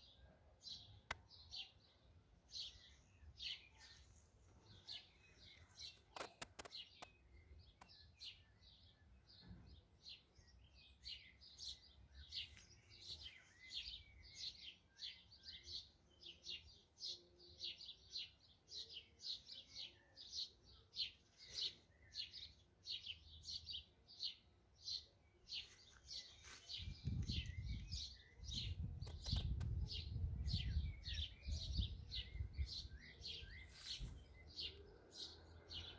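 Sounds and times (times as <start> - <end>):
songbird chirping: 0.0 - 35.9.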